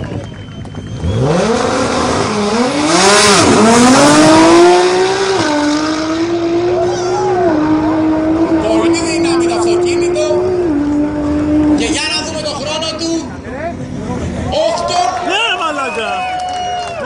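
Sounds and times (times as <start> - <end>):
car engine accelerating: 0.0 - 14.5.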